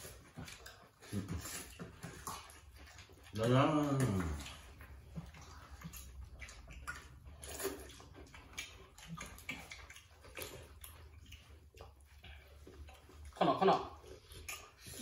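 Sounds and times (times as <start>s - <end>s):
noodles slurped and chewed: 0.0s - 15.0s.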